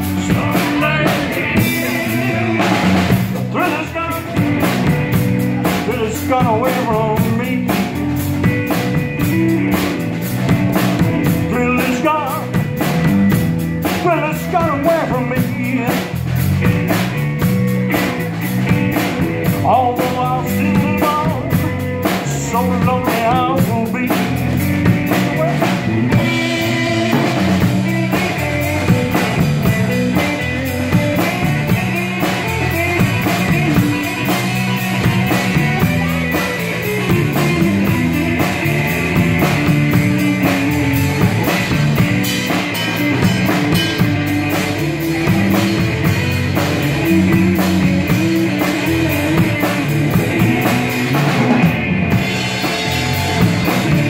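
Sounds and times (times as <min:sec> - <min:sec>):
blues-rock band playing: 0:00.0 - 0:54.0
electric lead guitar bending notes: 0:00.0 - 0:54.0.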